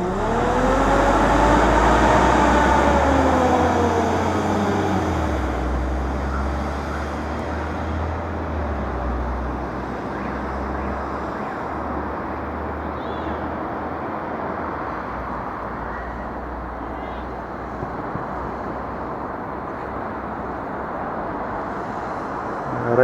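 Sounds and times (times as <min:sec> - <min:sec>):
car passing by: 0:00.0 - 0:23.0
street traffic noise: 0:00.0 - 0:23.0.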